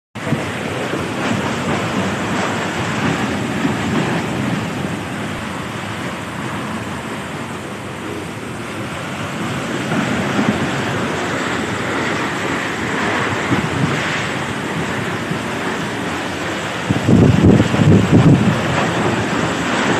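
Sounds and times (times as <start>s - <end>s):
heavy rain: 0.2s - 19.9s
strong wind: 0.2s - 19.9s.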